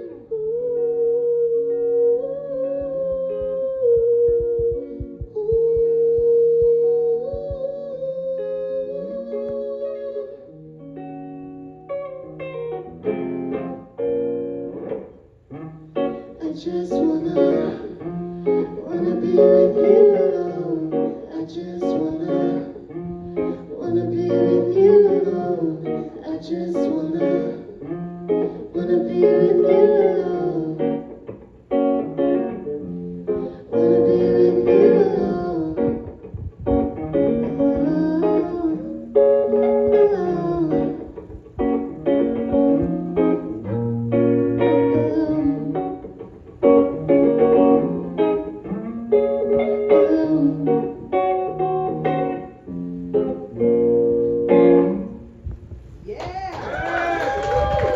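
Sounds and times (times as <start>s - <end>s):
live guitar music: 0.0s - 57.9s.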